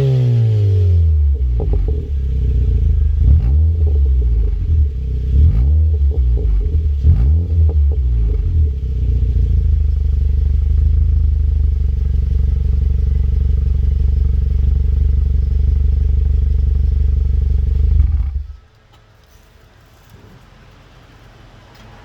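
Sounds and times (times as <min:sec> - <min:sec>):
car engine revving and idling: 0:00.0 - 0:18.7.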